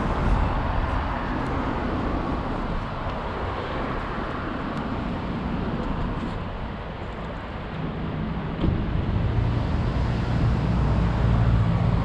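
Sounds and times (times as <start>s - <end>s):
road traffic: 0.0s - 12.0s
vehicle engine rumbling: 0.0s - 12.0s.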